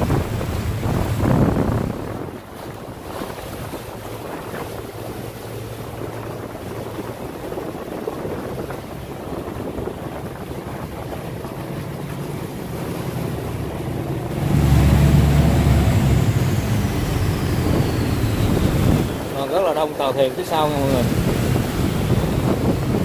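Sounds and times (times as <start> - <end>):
boat engine running: 0.0 - 23.0
water churning along hull: 0.0 - 23.0
wind buffeting microphone: 0.0 - 23.0.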